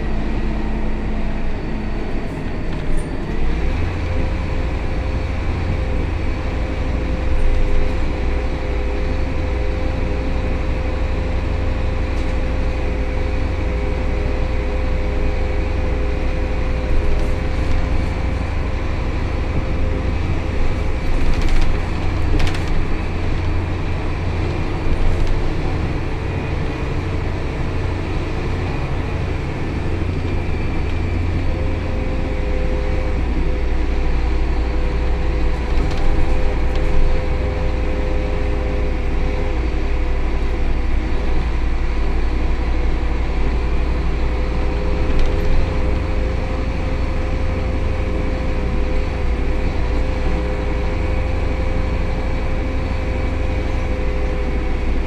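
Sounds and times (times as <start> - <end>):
bus engine drone: 0.0 - 55.0
road rumble: 0.0 - 55.0.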